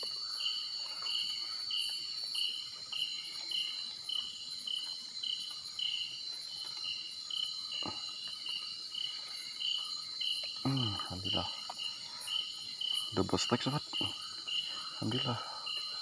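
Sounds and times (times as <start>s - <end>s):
insect chirping: 0.0s - 16.0s
insects buzzing: 0.0s - 16.0s.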